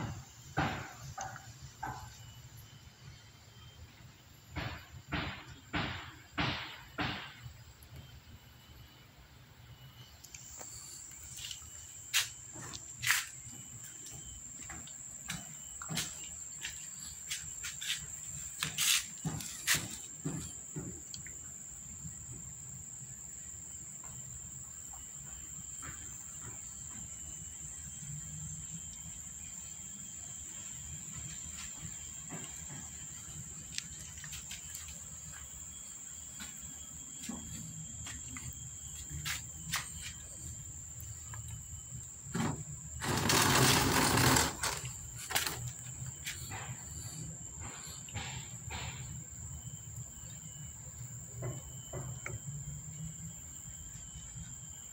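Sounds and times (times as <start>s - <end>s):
high-pitched insect drone: 0.0s - 54.9s.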